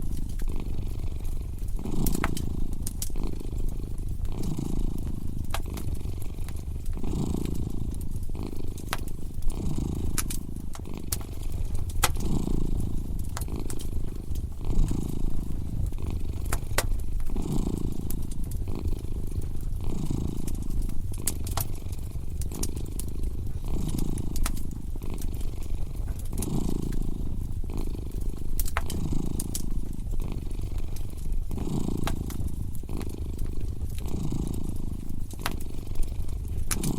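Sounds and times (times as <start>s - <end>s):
cat purring: 0.0s - 36.9s
crackling wood fire: 0.0s - 36.9s.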